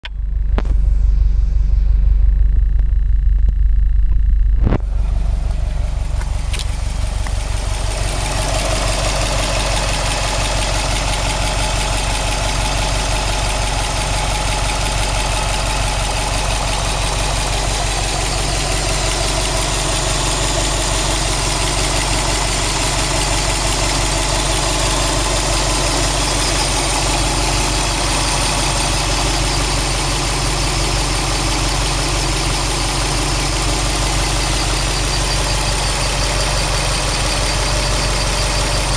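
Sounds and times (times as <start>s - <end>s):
car engine idling with knocking: 0.0s - 38.9s.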